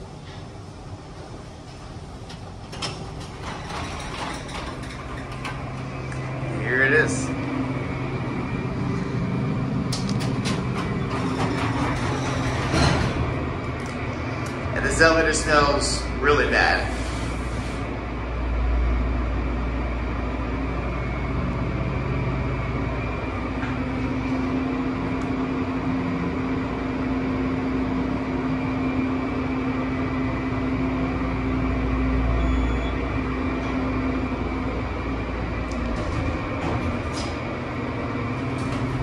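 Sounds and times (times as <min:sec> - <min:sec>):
elevator mechanical hum: 0:00.0 - 0:39.0
elevator whine: 0:00.0 - 0:39.0.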